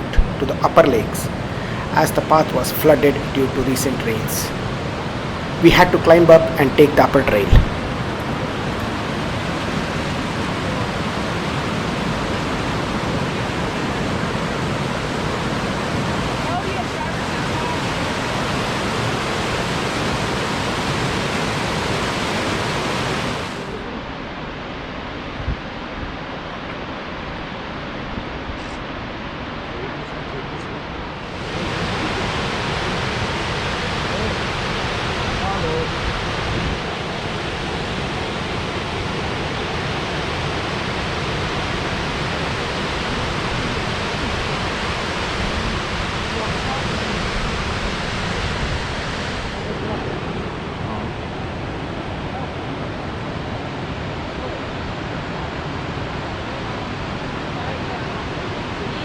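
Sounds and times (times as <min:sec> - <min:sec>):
waterfall roaring: 0:00.0 - 0:24.0, 0:31.0 - 0:59.0.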